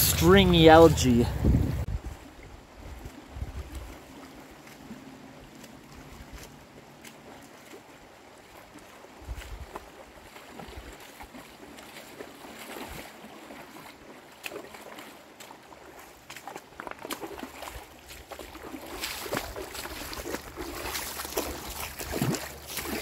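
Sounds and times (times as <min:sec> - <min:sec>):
boots splashing through water: 0:00.0 - 0:23.0
river running over stones: 0:00.0 - 0:23.0.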